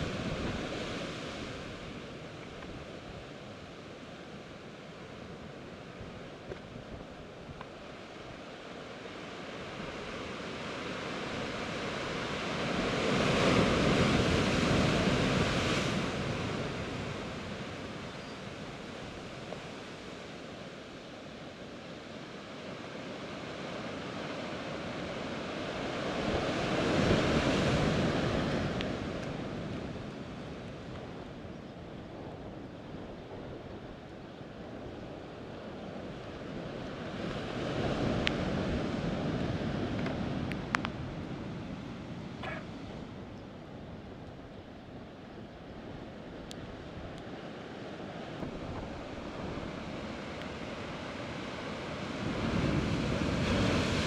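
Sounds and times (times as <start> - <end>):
sea surf washing: 0.0 - 54.0.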